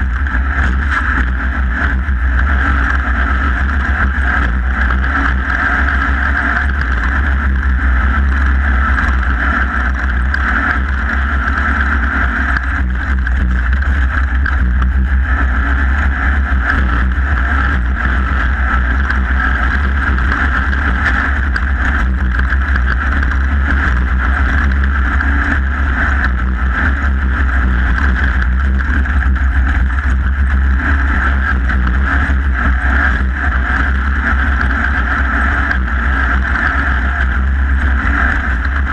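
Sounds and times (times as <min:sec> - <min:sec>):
race vehicle engine droning: 0:00.0 - 0:38.9.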